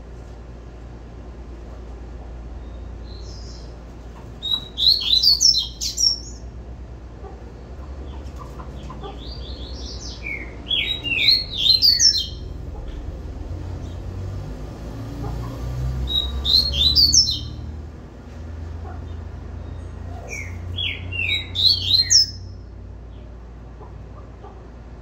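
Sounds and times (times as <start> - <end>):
caged bird singing: 2.4 - 23.3.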